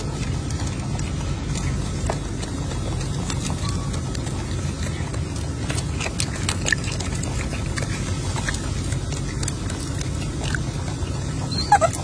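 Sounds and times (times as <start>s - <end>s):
low rumble: 0.0s - 12.0s
monkey chewing and biting: 0.0s - 12.0s.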